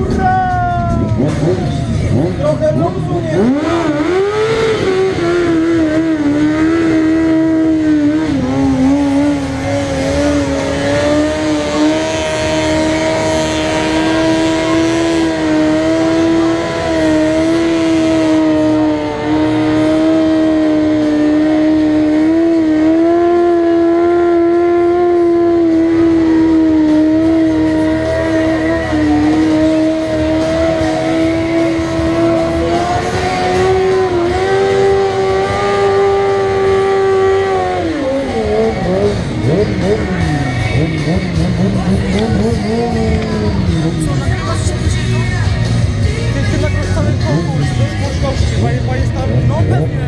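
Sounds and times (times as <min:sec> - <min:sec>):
motorcycle engine at high revs: 0:01.1 - 0:50.0.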